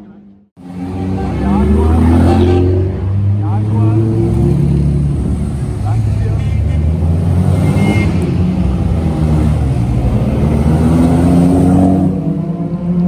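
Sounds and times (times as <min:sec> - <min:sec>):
car engine accelerating: 0:00.6 - 0:13.0.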